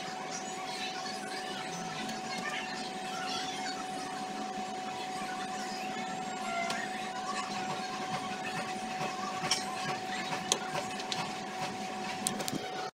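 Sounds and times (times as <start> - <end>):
steady high hum: 0.0 - 12.9.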